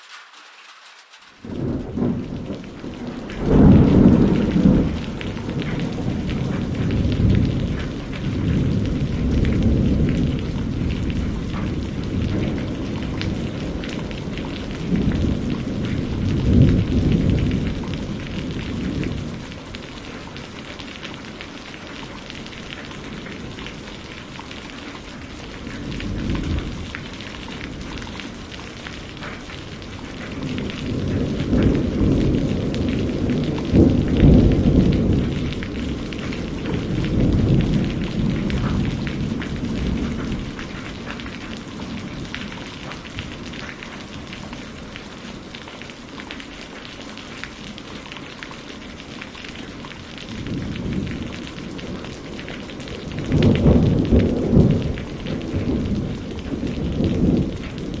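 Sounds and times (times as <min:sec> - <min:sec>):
rolling thunder: 0:00.0 - 0:20.4, 0:22.9 - 0:45.0, 0:50.3 - 0:58.0
steady rain patter: 0:00.0 - 0:58.0.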